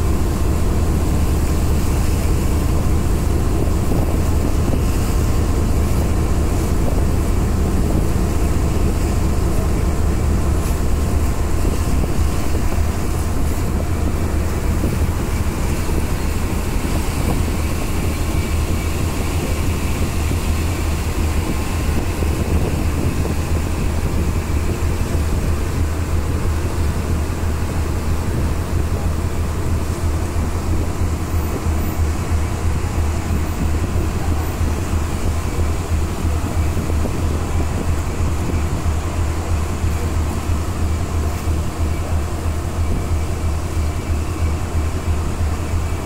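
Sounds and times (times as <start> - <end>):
boat engine droning: 0.0 - 46.0
constant rushing noise: 0.0 - 46.0.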